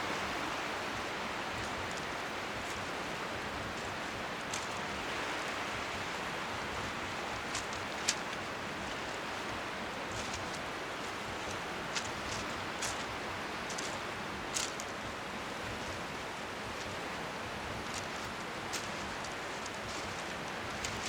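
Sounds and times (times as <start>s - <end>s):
small waves lapping: 0.0s - 21.0s
strong wind: 0.0s - 21.0s.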